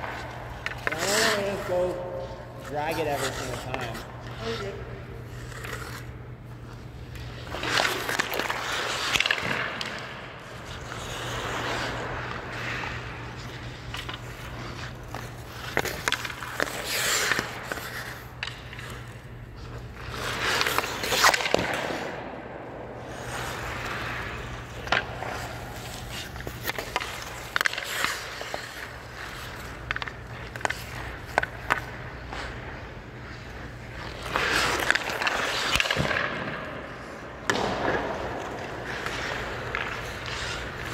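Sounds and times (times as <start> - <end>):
skate blades scraping on ice: 0.0 - 40.9
stick and puck clacks: 0.0 - 40.9.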